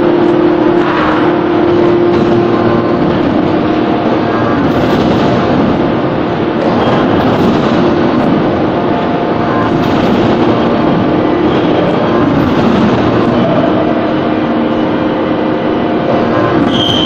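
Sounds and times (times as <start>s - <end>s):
loud machinery drone: 0.0s - 17.0s.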